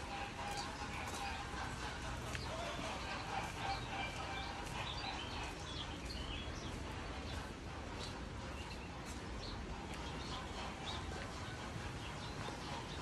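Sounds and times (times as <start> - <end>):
background ambience: 0.0 - 13.0
small birds chirping: 0.0 - 13.0.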